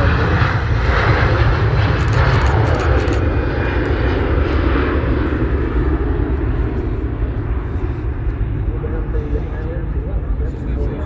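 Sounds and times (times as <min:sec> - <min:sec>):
airliner engines roaring: 0:00.0 - 0:11.0.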